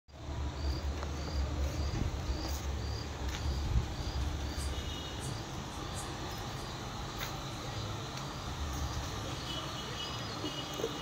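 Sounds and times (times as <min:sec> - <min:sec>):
cricket chirping: 0:00.6 - 0:11.0.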